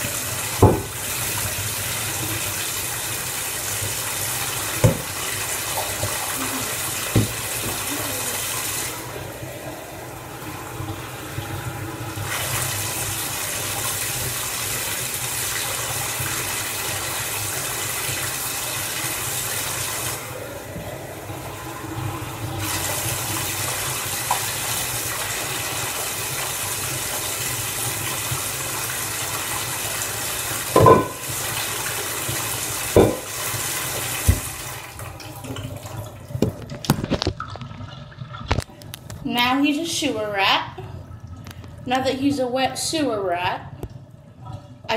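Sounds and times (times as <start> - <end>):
bathtub tap running: 0.0 - 39.2.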